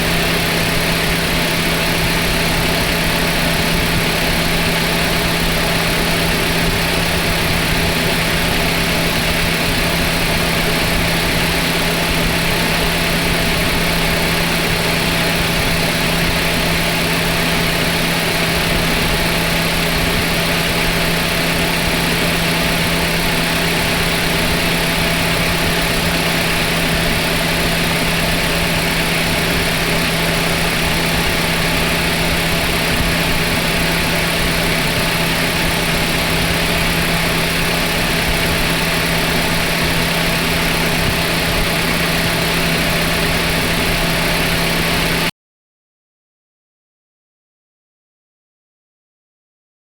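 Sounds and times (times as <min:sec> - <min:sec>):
car engine idling: 0:00.0 - 0:45.3.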